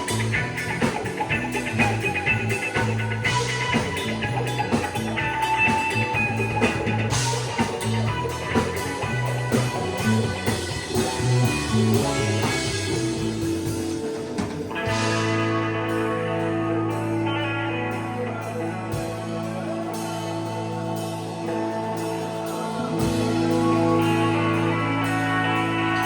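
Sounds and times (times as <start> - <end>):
bass line: 0.0 - 26.0
drum kit: 0.0 - 26.0
guitar: 0.0 - 26.0.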